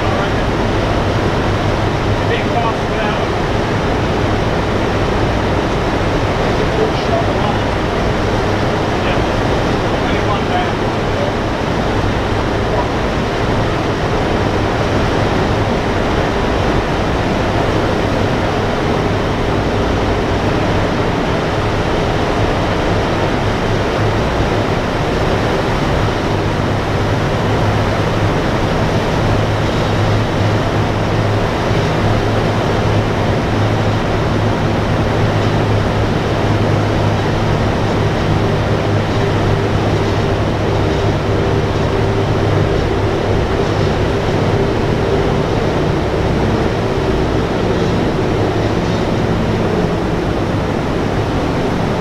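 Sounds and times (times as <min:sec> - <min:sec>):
aircraft engines droning: 0:00.0 - 0:52.0.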